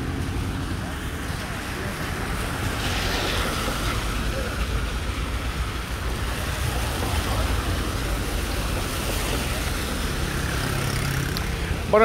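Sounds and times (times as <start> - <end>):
traffic on wet street: 0.0 - 12.0.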